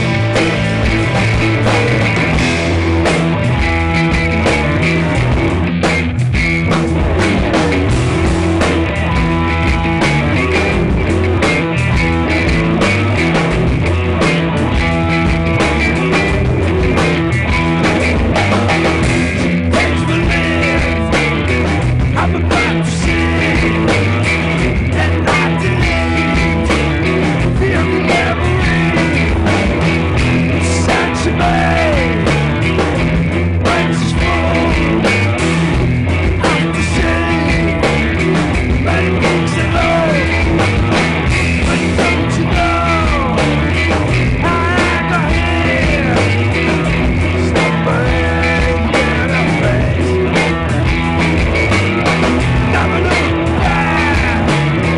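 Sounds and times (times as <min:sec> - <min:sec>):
guitar bending pitch: 0:00.0 - 0:54.9
rock band playing: 0:00.0 - 0:54.9.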